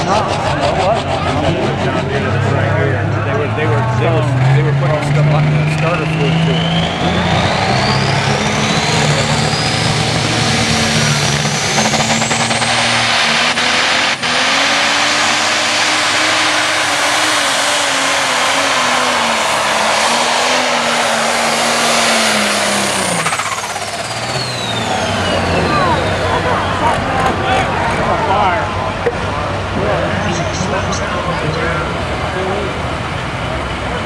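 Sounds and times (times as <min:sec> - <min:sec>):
diesel tractor engine at full power: 0:00.0 - 0:34.0
high turbo whine: 0:00.0 - 0:34.0.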